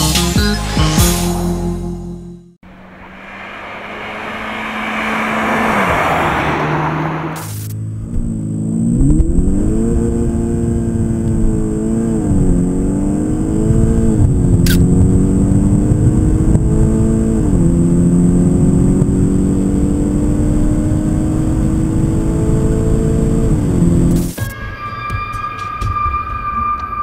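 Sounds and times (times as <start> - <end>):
car engine at full throttle: 2.6 - 24.4.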